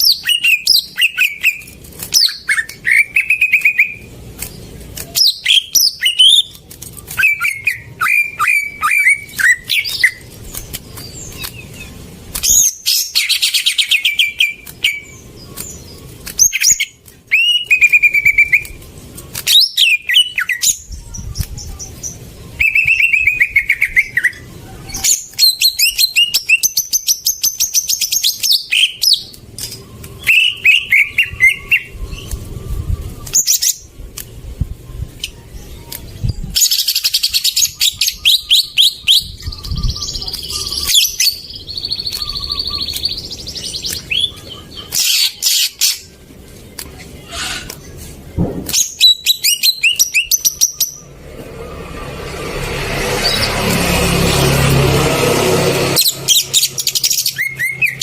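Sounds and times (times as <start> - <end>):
bird singing whistled trills: 0.0 - 4.1, 5.1 - 10.3, 11.0 - 18.8, 19.4 - 33.9, 34.9 - 46.1, 48.7 - 51.1, 56.0 - 58.0.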